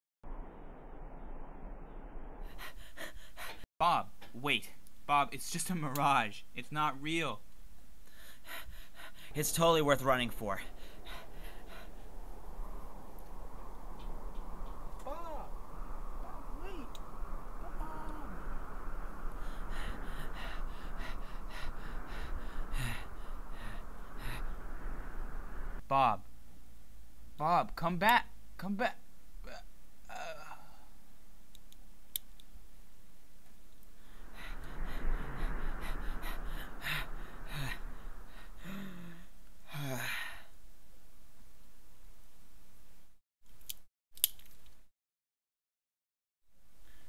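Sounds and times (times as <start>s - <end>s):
background hiss and hum: 2.5s - 27.5s, 28.3s - 43.1s.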